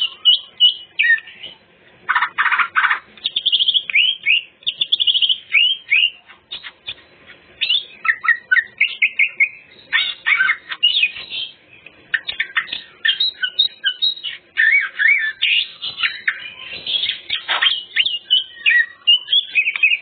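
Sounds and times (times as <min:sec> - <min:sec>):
bird singing whistles and trills: 0:00.0 - 0:07.0, 0:07.6 - 0:20.0.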